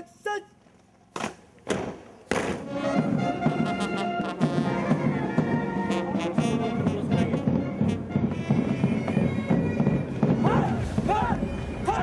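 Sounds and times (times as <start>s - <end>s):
military band with bagpipes: 2.4s - 12.0s.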